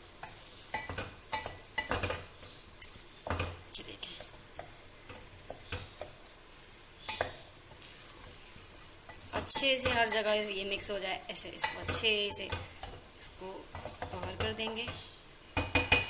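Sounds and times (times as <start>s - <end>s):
faint sizzle: 0.0s - 16.0s
wooden spoon scraping metal pot: 0.2s - 16.0s.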